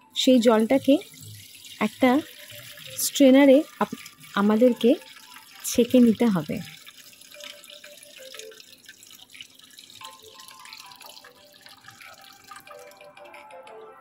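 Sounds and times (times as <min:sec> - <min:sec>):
water dripping: 0:00.2 - 0:14.0
water trickling into a mesh strainer: 0:00.2 - 0:14.0.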